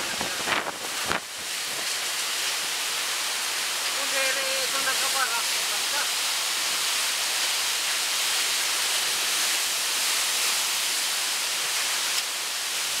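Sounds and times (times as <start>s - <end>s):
driving rain: 0.0s - 13.0s
water rushing: 0.0s - 13.0s
wind: 0.0s - 13.0s.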